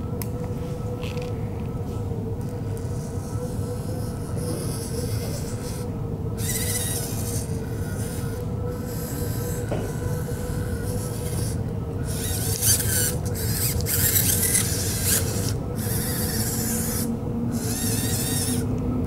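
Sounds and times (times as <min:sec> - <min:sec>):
steady low hum: 0:00.0 - 0:19.0
small electric motors whirring: 0:02.4 - 0:18.7.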